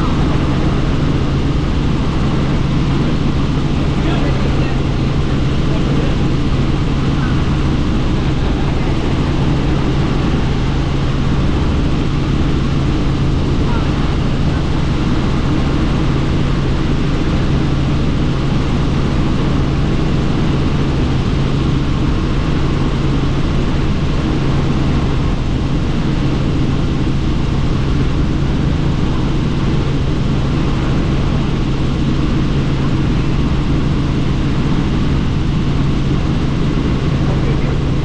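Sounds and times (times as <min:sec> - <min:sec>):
helicopter engine and rotors drone: 0:00.0 - 0:38.0
rushing wind: 0:00.0 - 0:38.0.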